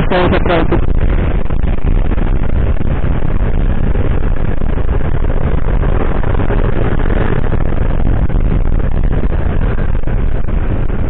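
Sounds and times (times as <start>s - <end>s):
road noise: 0.0s - 11.0s
scooter engine running: 0.0s - 11.0s
wind rush on microphone: 0.0s - 11.0s.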